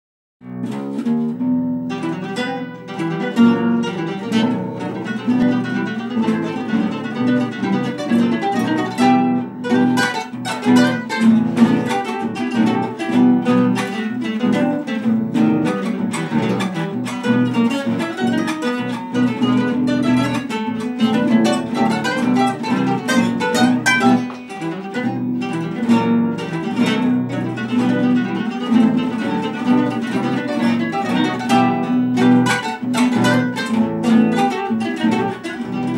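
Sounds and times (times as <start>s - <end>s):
plucked guitar melody: 0.4s - 35.9s
strummed guitar chords: 0.4s - 35.9s.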